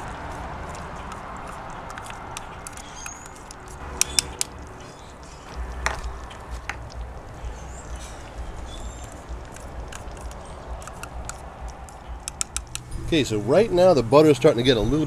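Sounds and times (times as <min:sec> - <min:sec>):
utensil tapping: 0:00.0 - 0:12.9.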